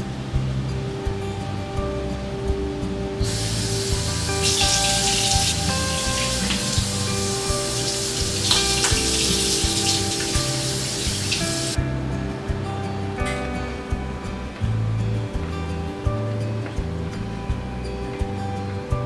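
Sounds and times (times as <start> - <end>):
soft music of held notes: 0.0 - 19.0
steady hiss: 0.0 - 19.0.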